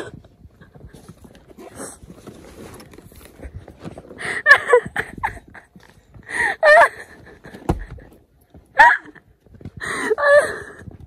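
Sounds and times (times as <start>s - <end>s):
footsteps on rocky trail: 0.0s - 11.0s.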